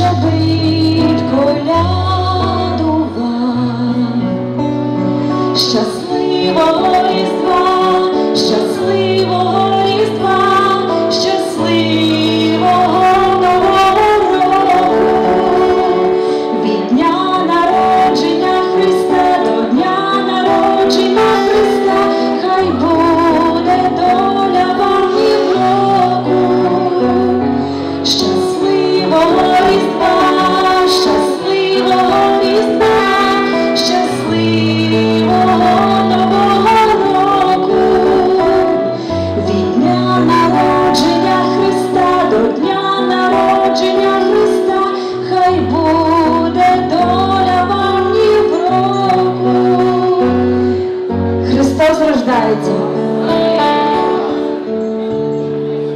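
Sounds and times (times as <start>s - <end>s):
instrumental accompaniment with bass: 0.0s - 55.9s
woman singing into a microphone: 0.0s - 55.9s.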